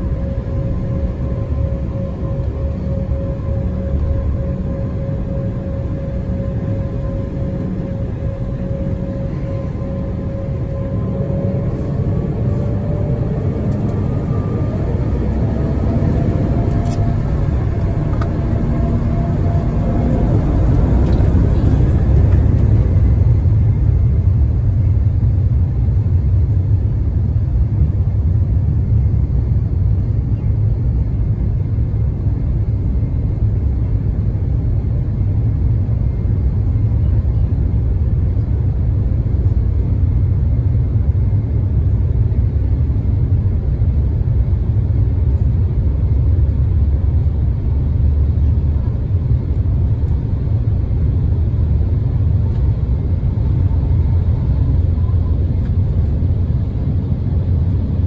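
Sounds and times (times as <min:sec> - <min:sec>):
jet engines low rumble: 0:00.0 - 0:58.0.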